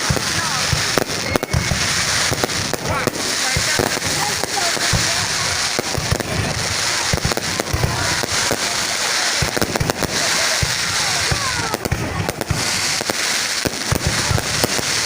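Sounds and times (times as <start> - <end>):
firework whistles: 0.0 - 15.0
fireworks bangs: 0.0 - 15.0
fireworks crackle: 0.0 - 15.0.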